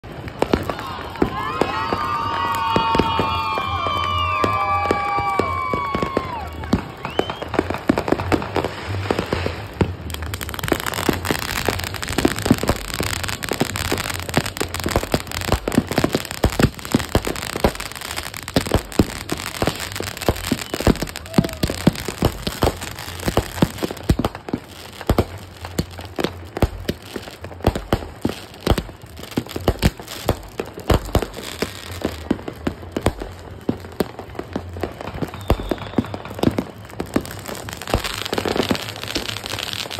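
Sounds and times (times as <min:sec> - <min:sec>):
firework fountain crackling: 0:00.0 - 0:39.9.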